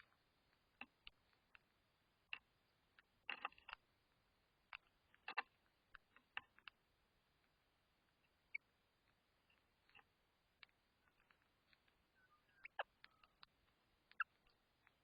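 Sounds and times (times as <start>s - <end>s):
birds pecking at seed: 0.0s - 15.0s.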